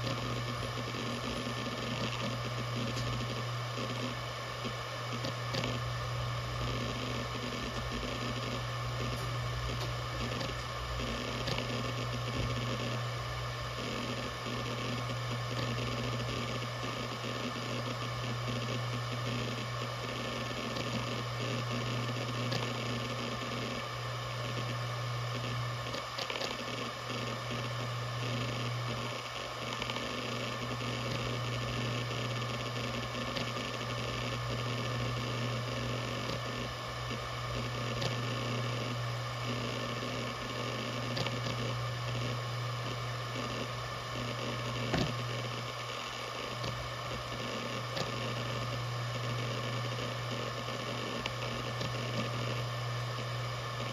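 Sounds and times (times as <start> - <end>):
hard drive buzzing hum: 0.0 - 53.9.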